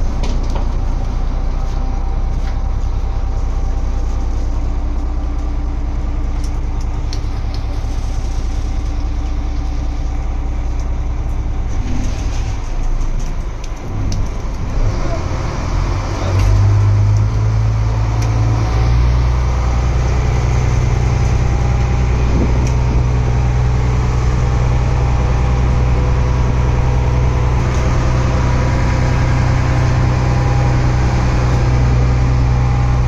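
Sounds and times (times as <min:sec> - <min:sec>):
boat diesel engine droning: 0:00.0 - 0:33.0.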